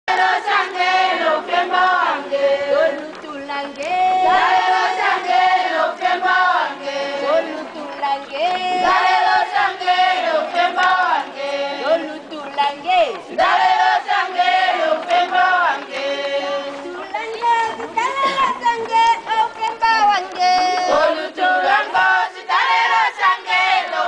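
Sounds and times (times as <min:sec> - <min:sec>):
women singing together: 0:00.1 - 0:24.0.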